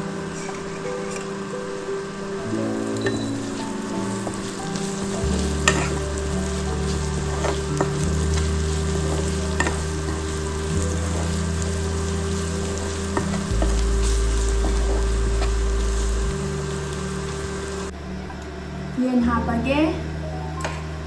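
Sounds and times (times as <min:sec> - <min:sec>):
sauce sizzling in a pan: 0:00.5 - 0:17.9.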